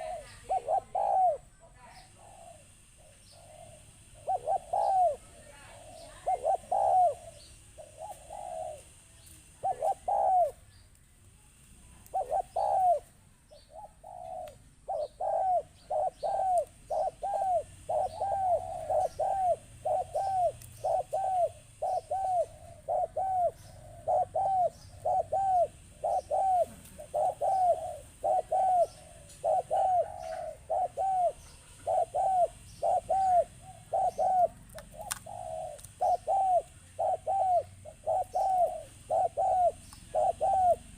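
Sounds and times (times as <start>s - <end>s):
dove cooing: 0.0s - 10.7s, 11.9s - 40.9s.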